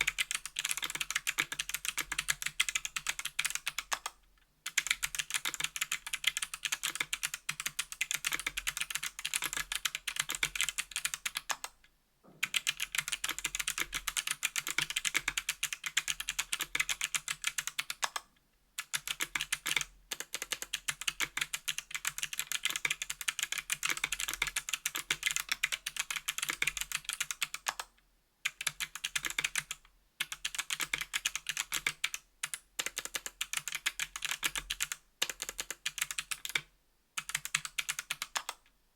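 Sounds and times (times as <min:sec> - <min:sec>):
fast typing on clicky keyboard: 0:00.0 - 0:11.8, 0:12.4 - 0:18.2, 0:18.8 - 0:27.9, 0:28.5 - 0:38.6.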